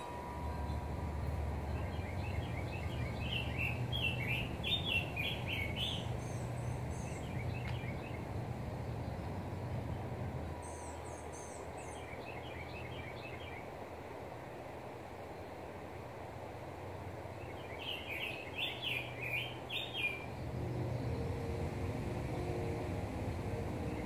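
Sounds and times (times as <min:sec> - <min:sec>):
low steady hum: 0:00.0 - 0:24.0
songbirds chirping: 0:00.0 - 0:24.0.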